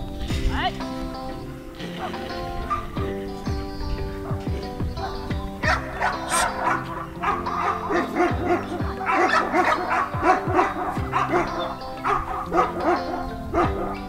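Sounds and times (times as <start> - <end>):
music with steady beat: 0.0 - 14.0
dogs barking and yipping: 0.8 - 14.0.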